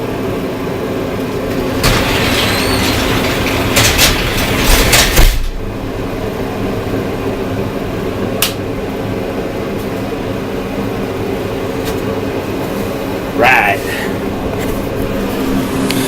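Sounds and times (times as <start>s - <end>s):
mechanical hum with low drone: 0.0s - 16.0s.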